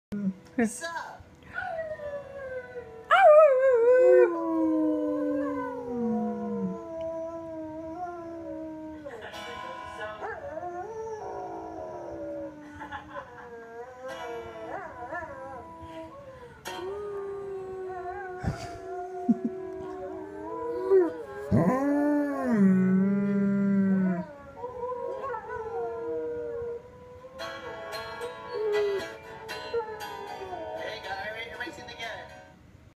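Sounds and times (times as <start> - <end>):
dog howling: 1.6 - 9.2, 10.2 - 30.8.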